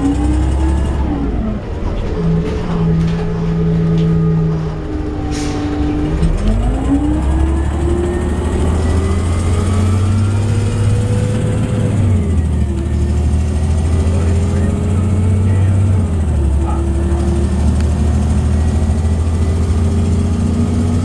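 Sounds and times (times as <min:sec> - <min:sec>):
bus engine and driveline whine: 0:00.0 - 0:21.0.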